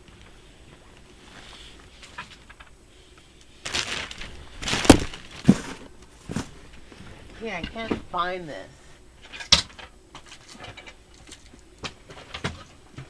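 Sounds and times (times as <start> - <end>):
crinkly rustling: 0.0 - 13.0.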